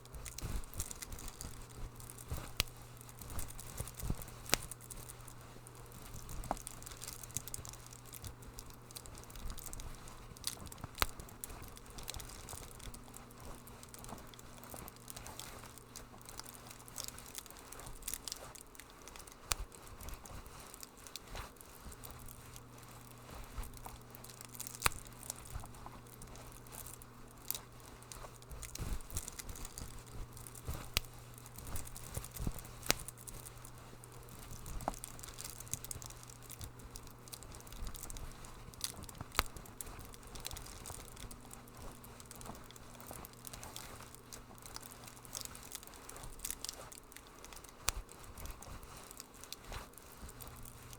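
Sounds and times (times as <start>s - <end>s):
soft hiss: 0.0s - 50.9s
wood fire crackling and popping: 0.0s - 50.9s.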